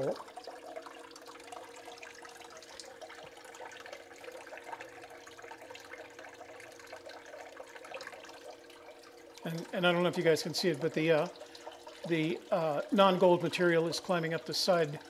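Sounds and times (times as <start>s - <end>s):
submersible pump humming: 0.0s - 15.0s
water trickling and splashing: 0.0s - 15.0s.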